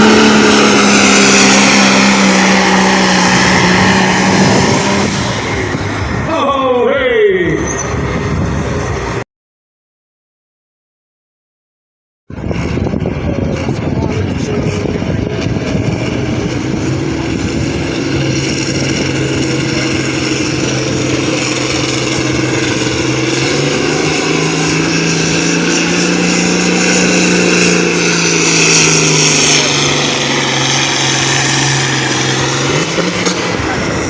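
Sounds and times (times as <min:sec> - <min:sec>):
tractor engine under load: 0:00.0 - 0:06.2, 0:12.4 - 0:34.0.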